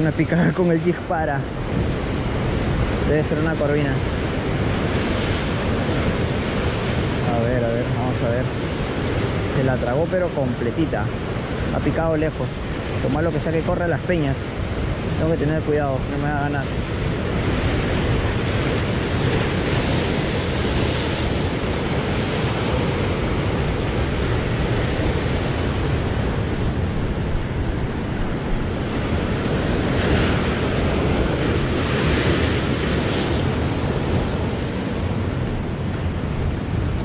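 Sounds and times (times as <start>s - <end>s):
wind buffeting microphone: 0.0s - 13.4s, 14.3s - 37.0s
surf washing over rocks: 0.0s - 37.0s.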